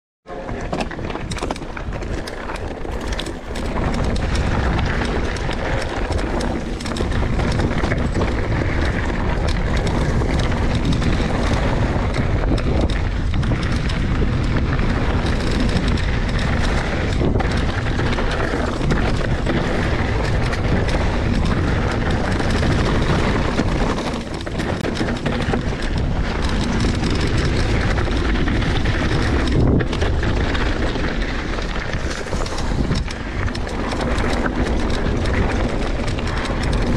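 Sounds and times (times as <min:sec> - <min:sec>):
bike knocks and rattles: 0:00.3 - 0:36.9
bike tyre and trail noise: 0:00.3 - 0:36.9
wind rumble on microphone: 0:00.3 - 0:36.9.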